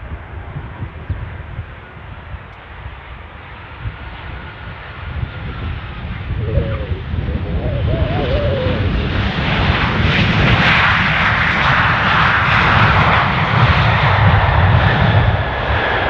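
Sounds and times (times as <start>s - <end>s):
jet aircraft passing: 0.0s - 16.0s
turbine whine: 0.0s - 16.0s.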